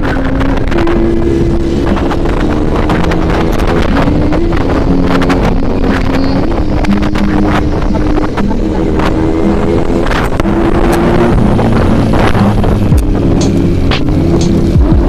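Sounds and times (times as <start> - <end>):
background music of held notes: 0.0 - 15.0
wind buffeting microphone: 0.0 - 15.0.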